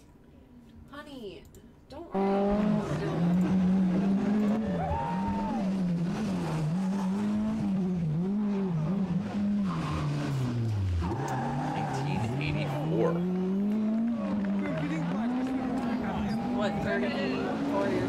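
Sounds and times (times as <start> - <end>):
rally car engine revving: 2.1 - 18.0.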